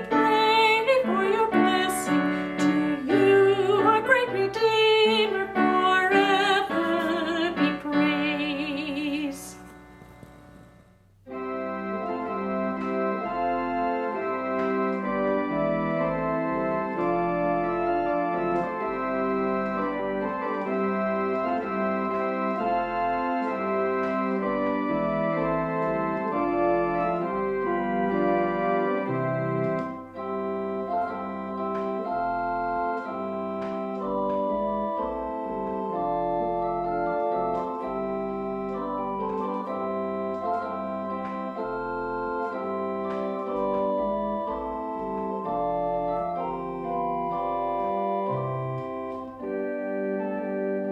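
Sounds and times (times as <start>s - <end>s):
organ playing sustained chords: 0.0s - 50.9s.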